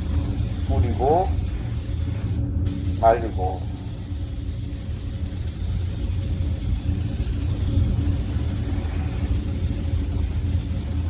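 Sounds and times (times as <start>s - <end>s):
compressed air hissing: 0.0s - 11.0s
low machine rumble: 0.0s - 11.0s.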